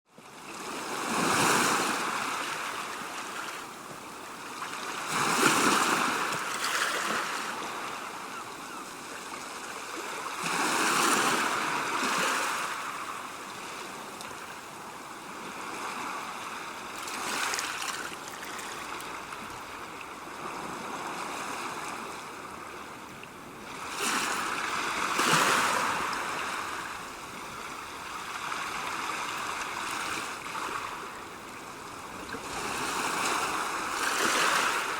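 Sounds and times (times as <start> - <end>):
sea waves breaking on shore: 0.2 - 34.9.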